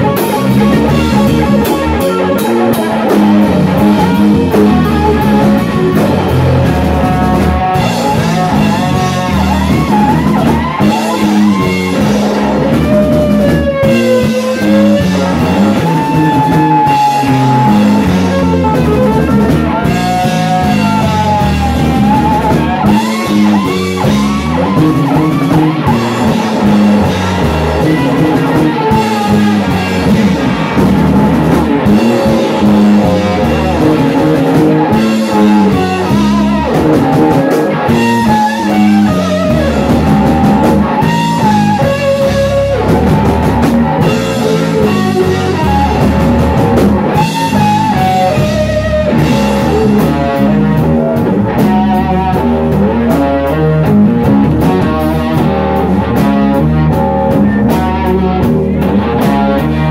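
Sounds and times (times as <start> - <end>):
electric guitar solo: 0.0 - 59.9
rock band playing: 0.0 - 59.9.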